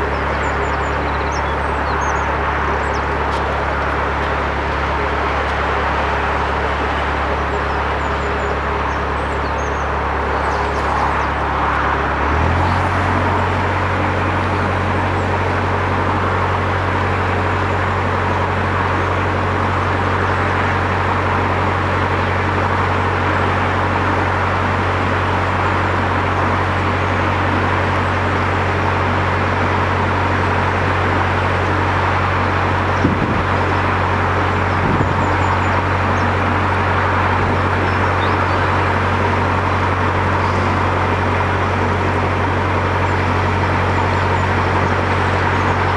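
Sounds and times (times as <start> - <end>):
boat diesel engine running: 0.0 - 45.9.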